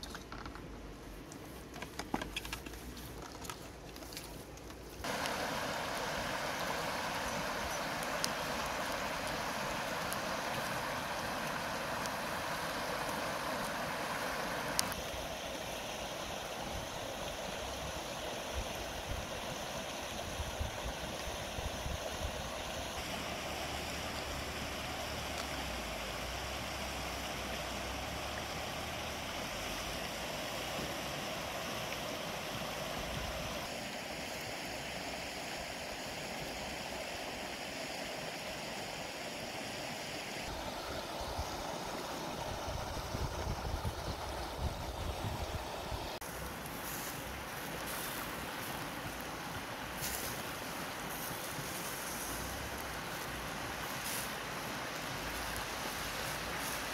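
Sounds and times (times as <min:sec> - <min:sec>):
flowing stream rushing: 0:05.0 - 0:56.9.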